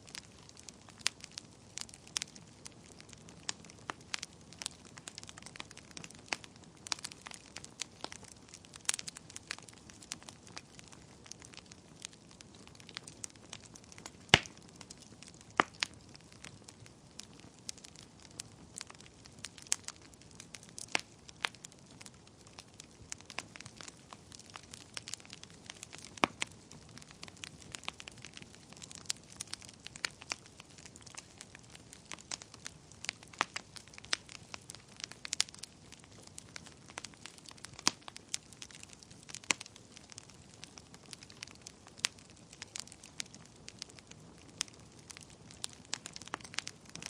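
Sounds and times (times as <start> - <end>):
soft fire hiss: 0.0 - 47.0
wood fire crackling and popping: 0.0 - 47.0.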